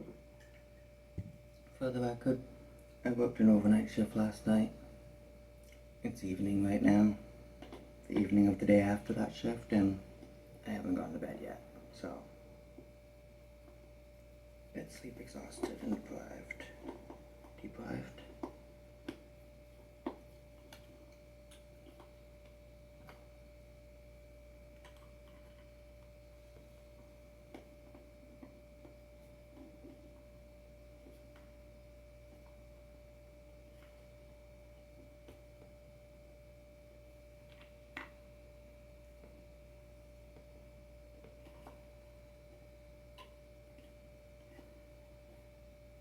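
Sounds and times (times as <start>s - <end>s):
faint electrical hum: 0.0s - 46.0s.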